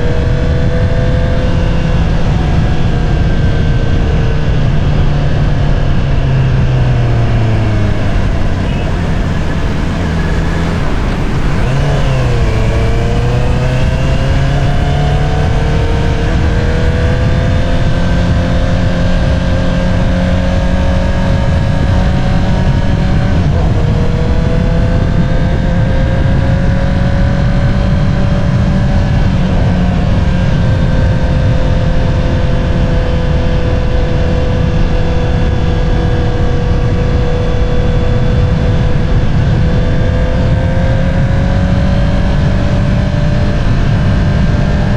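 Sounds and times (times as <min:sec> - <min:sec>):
motorcycle engine revving while riding: 0:00.0 - 0:44.9.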